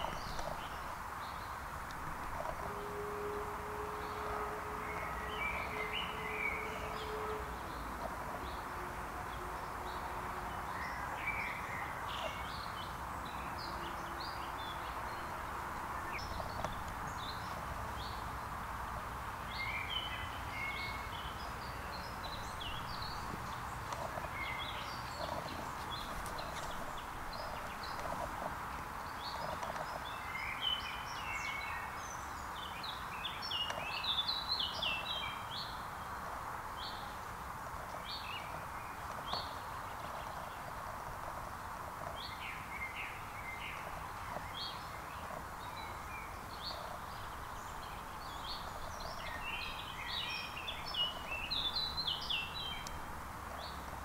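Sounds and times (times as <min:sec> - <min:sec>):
songbirds chirping and trilling: 0:00.0 - 0:54.0
steady background hiss: 0:00.0 - 0:54.0.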